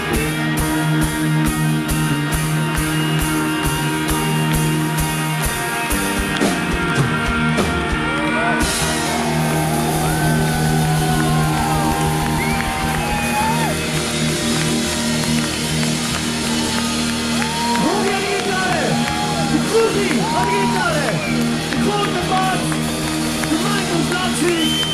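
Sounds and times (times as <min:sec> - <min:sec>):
electric guitar chords: 0:00.0 - 0:24.9
live rock band playing: 0:00.0 - 0:24.9.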